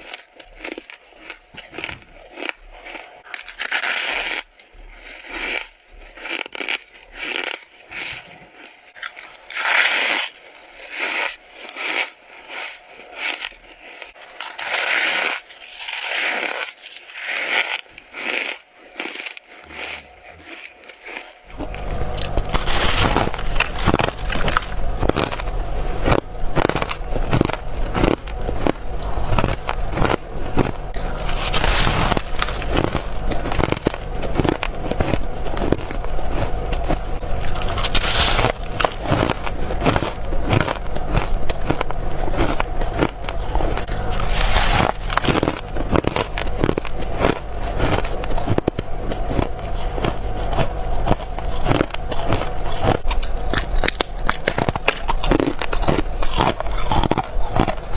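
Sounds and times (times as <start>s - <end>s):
teeth crunching frost: 0.0s - 57.9s.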